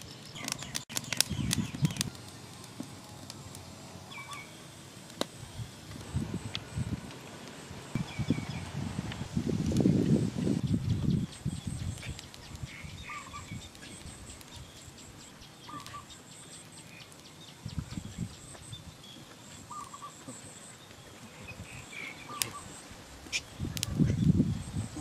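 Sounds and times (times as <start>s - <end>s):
insects chirring: 0.1s - 25.0s.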